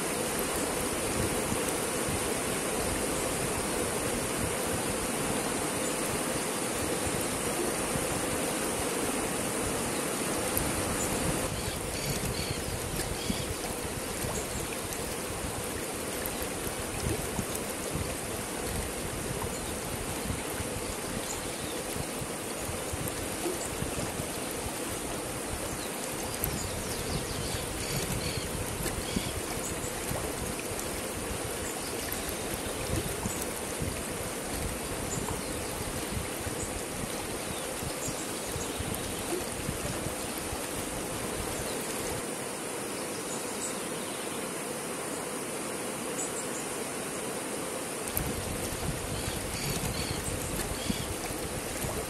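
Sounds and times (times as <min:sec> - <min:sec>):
river flowing over rocks: 0:00.0 - 0:52.0.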